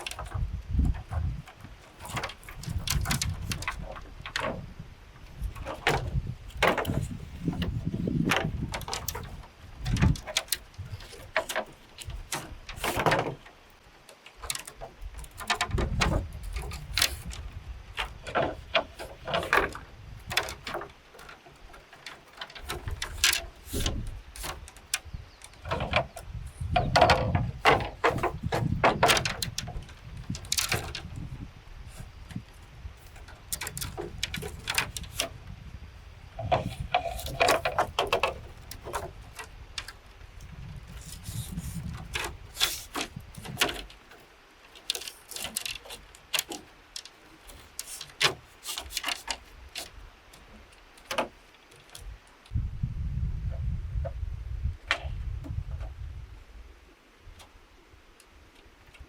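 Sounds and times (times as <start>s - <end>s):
wood knocking and clattering: 0.0s - 35.4s, 36.4s - 40.0s, 40.8s - 52.1s.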